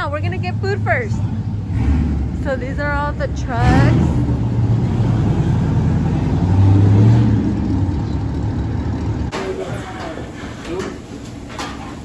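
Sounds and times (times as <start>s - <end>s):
truck engine droning: 0.0s - 11.3s.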